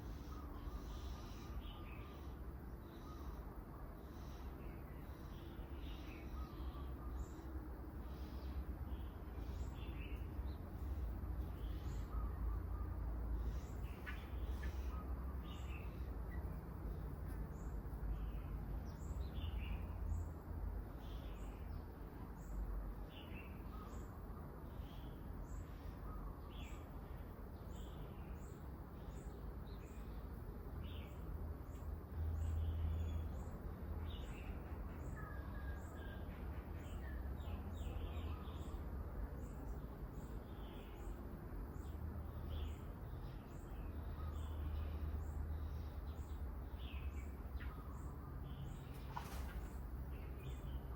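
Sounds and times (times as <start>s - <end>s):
low steady rumble: 0.0s - 50.9s
small birds chirping: 0.0s - 50.9s.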